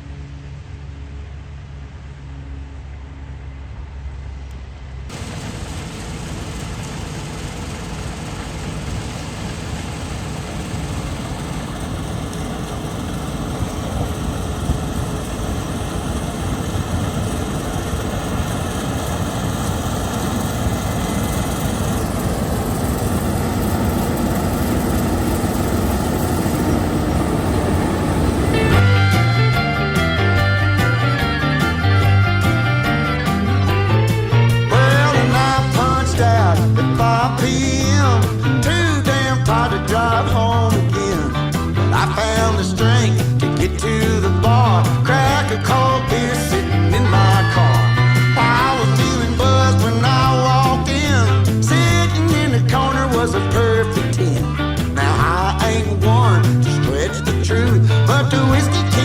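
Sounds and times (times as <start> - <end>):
heavy machinery engine running: 4.6 - 59.0.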